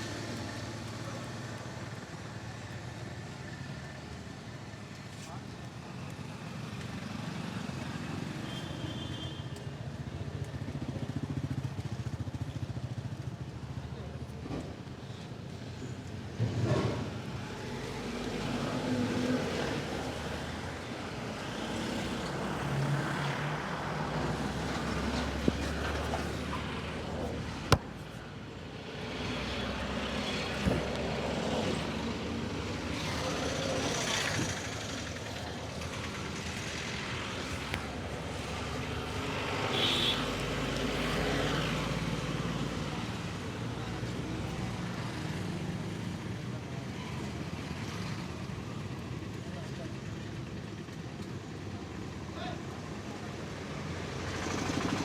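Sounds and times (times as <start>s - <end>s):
street traffic passing: 0.0s - 55.0s.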